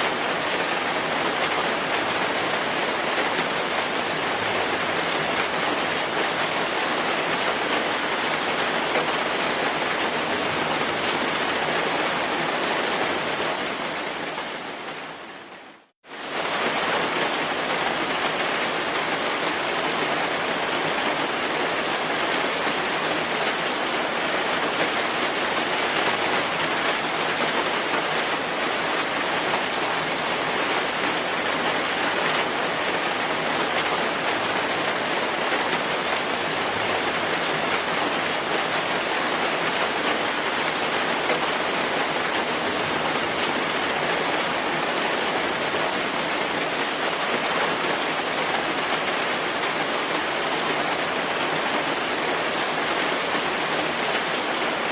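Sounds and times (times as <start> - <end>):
dense rainfall: 0.0 - 54.9.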